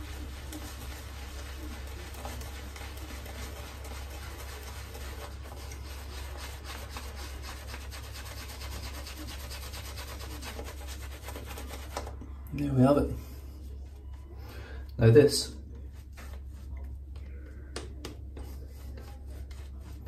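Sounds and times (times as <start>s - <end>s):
shaving brush wet rubbing: 0.0s - 13.0s, 15.4s - 17.3s, 18.1s - 20.0s.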